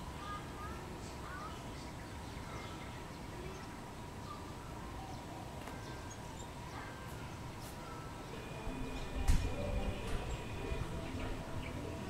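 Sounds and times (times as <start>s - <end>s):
faint steady tone: 0.0s - 12.0s
low background noise: 0.0s - 12.0s.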